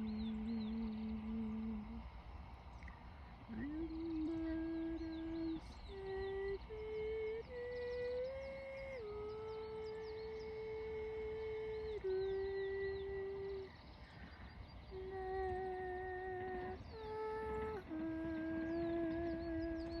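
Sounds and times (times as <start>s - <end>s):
steady humming tone: 0.0s - 20.0s.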